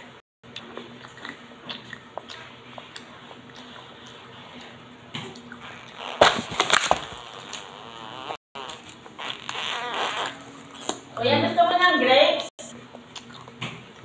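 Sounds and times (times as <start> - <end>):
child chewing peanuts: 0.5 - 11.2, 12.6 - 14.0.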